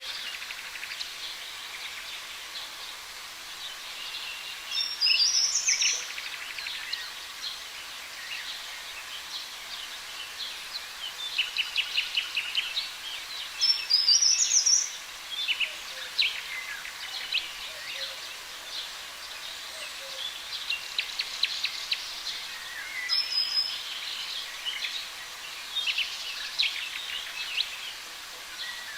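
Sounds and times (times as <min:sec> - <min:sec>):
steady background hiss: 0:00.0 - 0:28.9
wild birds singing and chirping: 0:00.0 - 0:28.9.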